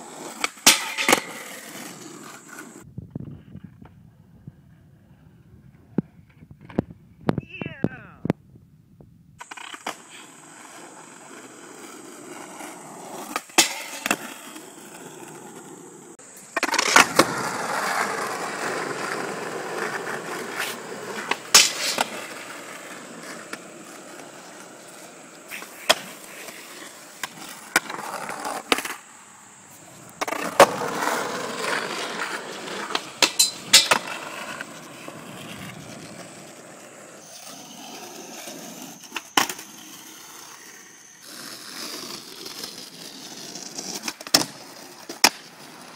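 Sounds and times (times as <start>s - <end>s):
skateboard clacking on pavement: 0.0s - 2.8s, 9.4s - 29.1s, 30.0s - 40.4s, 41.7s - 45.9s
skateboard wheels rolling on asphalt: 0.0s - 7.4s, 8.3s - 45.9s.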